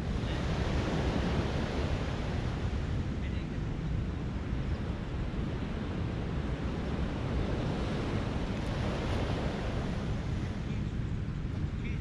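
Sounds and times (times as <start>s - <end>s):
small waves washing onto shore: 0.0s - 12.0s
wind noise on microphone: 0.0s - 12.0s.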